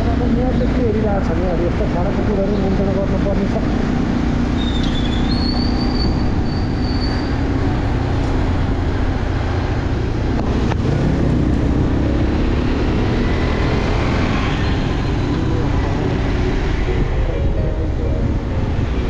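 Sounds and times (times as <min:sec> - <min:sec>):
wind rushing over microphone: 0:03.2 - 0:19.0.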